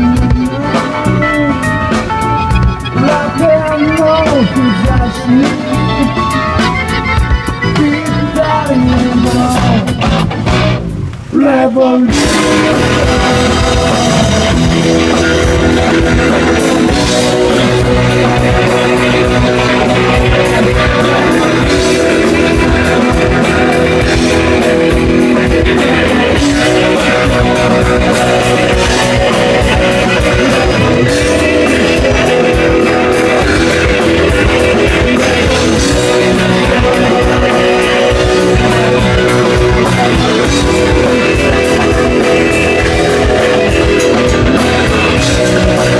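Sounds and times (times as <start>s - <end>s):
drum kit: 0.0s - 11.3s, 12.1s - 45.9s
bass guitar: 0.0s - 45.9s
electric guitar: 0.0s - 45.9s.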